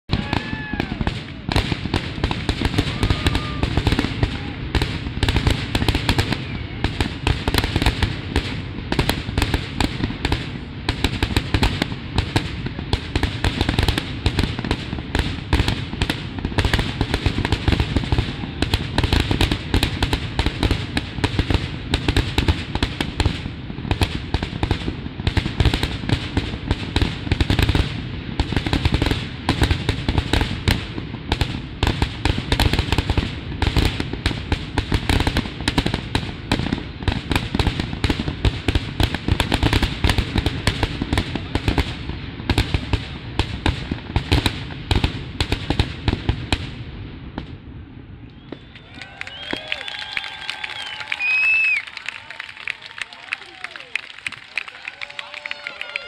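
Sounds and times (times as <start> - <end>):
fireworks bangs: 0.1 - 56.0.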